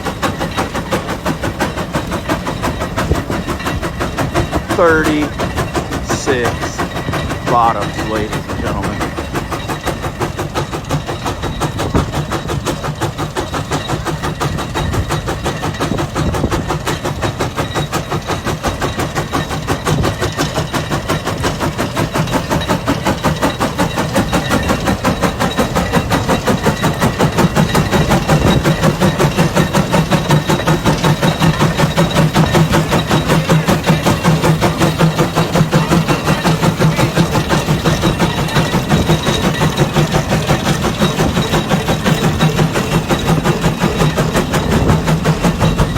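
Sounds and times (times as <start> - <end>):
steam engine exhaust chuffing: 0.0 - 45.9.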